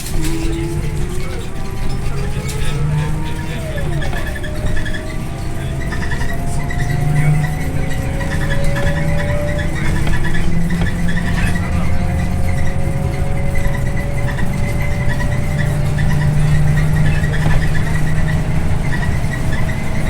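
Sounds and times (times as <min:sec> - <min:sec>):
bus diesel engine hum: 0:00.0 - 0:20.0
rising engine whine: 0:00.0 - 0:20.0.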